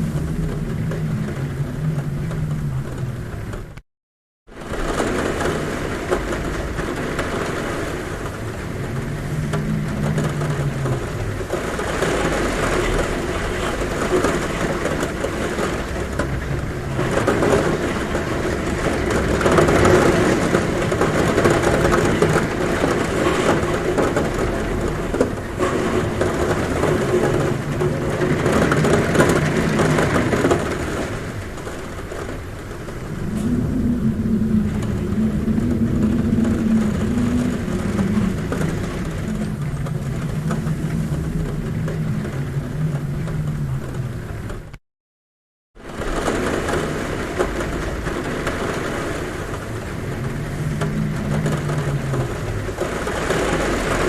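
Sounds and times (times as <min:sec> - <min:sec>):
gusting wind: 0:00.0 - 0:03.8, 0:04.5 - 0:44.8, 0:45.8 - 0:54.0
heavy rain on a roof: 0:00.0 - 0:03.8, 0:04.5 - 0:44.8, 0:45.8 - 0:54.0
wind humming at window: 0:00.0 - 0:03.8, 0:04.5 - 0:44.8, 0:45.8 - 0:54.0.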